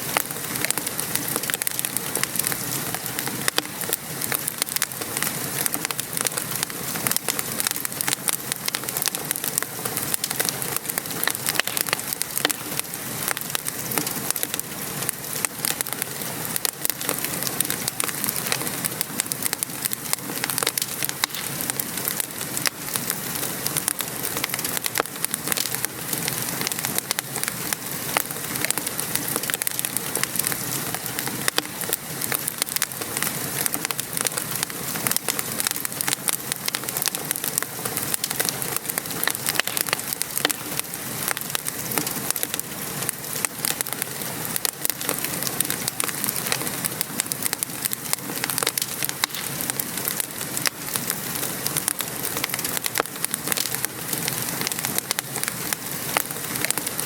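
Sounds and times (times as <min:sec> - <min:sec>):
rain pattering: 0:00.0 - 0:57.0
wood fire crackling: 0:00.0 - 0:57.0.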